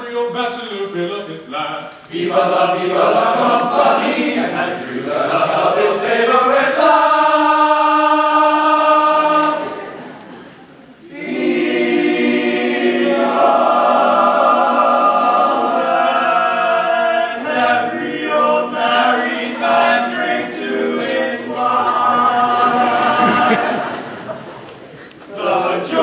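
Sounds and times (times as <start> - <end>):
men's choir singing: 2.1 - 10.4, 11.1 - 26.0.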